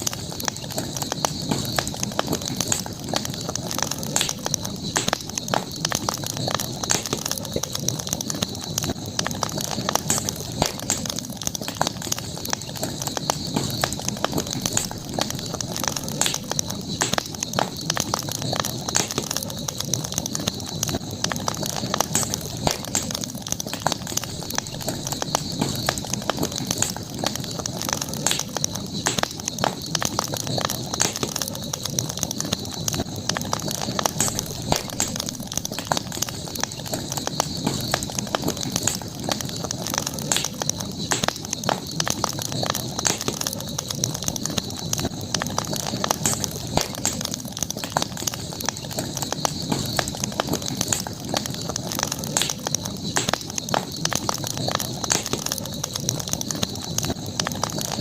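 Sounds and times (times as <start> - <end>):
campfire crackling and popping: 0.0 - 58.0
steady hiss: 0.0 - 58.0.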